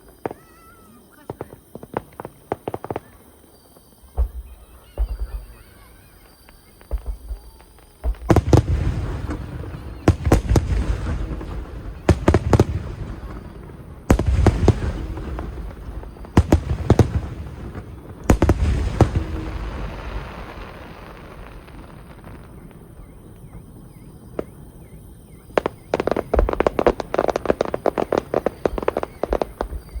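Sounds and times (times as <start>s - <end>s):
fireworks popping and booming: 0.0s - 30.0s.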